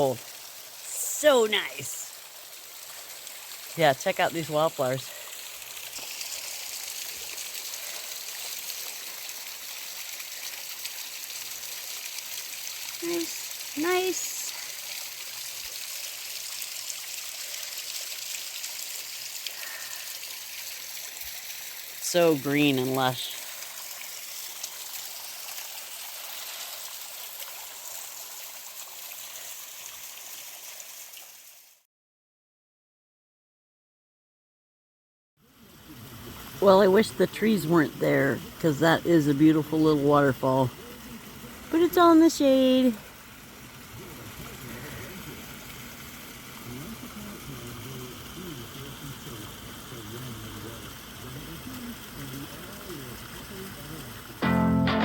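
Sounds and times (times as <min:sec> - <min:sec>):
creek water rushing: 0:00.0 - 0:31.6, 0:35.6 - 0:54.4.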